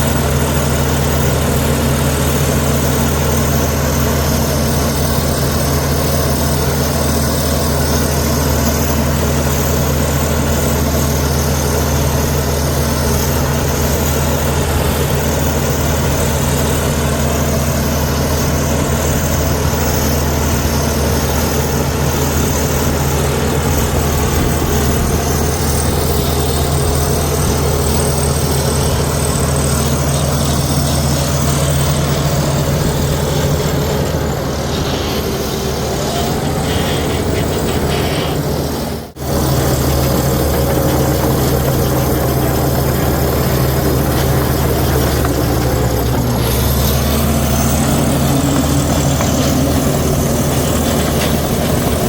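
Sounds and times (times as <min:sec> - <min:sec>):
bulldozer diesel engine humming: 0:00.0 - 0:52.0.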